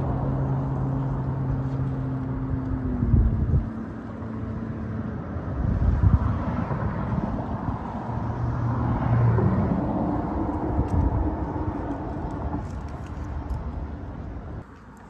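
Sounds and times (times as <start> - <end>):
passing motor engine rumble: 0.0 - 14.6.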